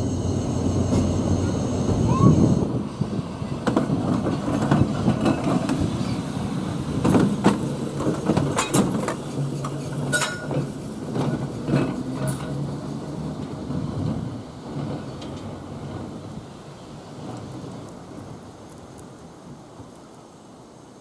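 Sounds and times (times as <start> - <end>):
tram rumbling along track: 0.0 - 21.0
wheels clicking at rail joints: 3.1 - 20.4.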